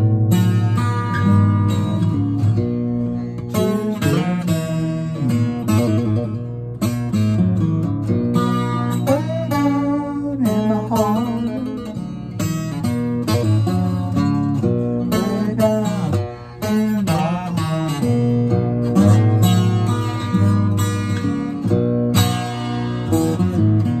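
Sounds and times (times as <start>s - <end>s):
acoustic guitar strummed and picked: 0.0s - 24.0s.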